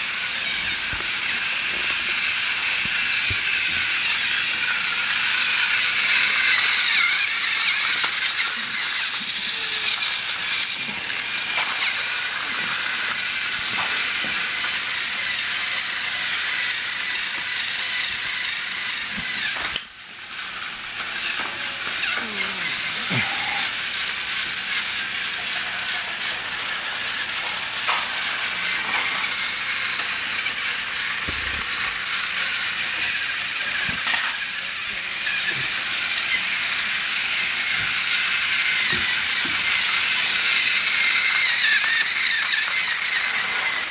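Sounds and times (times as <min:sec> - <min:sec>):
toy train motor whir: 0:00.0 - 0:43.9
toy train wheels rattling: 0:00.0 - 0:43.9.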